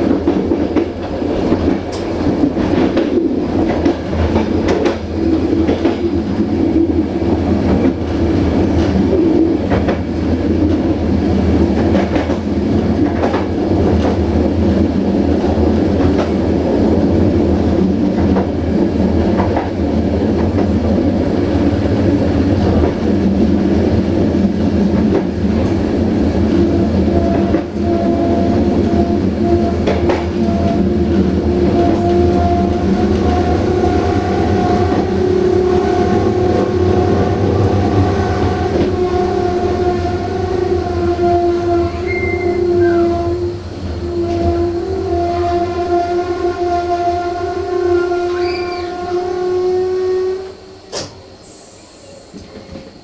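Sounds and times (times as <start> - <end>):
train rumbling on rails: 0.0 - 53.0
steady whine: 2.4 - 51.4.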